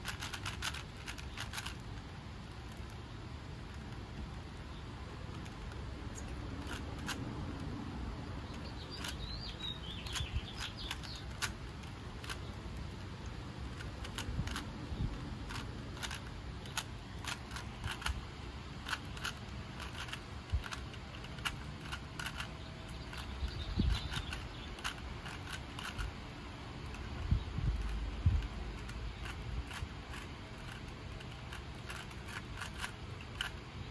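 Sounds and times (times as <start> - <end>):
puzzle cube clicking as turned: 0.0 - 3.1, 3.7 - 33.9.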